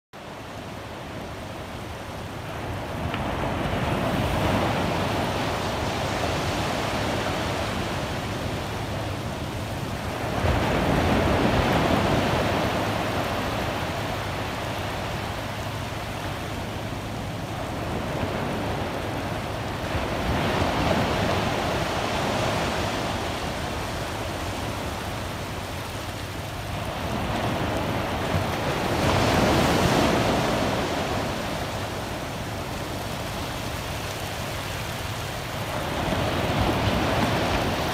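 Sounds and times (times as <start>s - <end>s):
ocean surf breaking: 0.2s - 37.9s.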